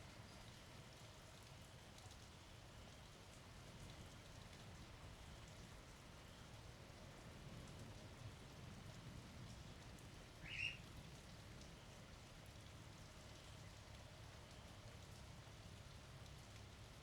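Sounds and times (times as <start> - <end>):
faint rain falling: 0.0 - 17.0.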